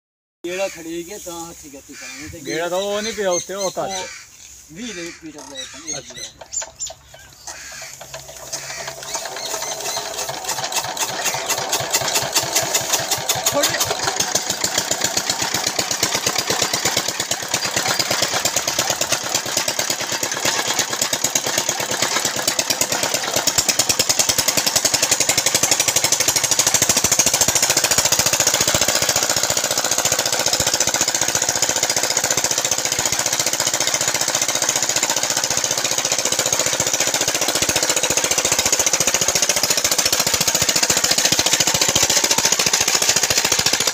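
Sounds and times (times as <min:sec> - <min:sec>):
diesel engine knocking: 0:06.0 - 0:43.9.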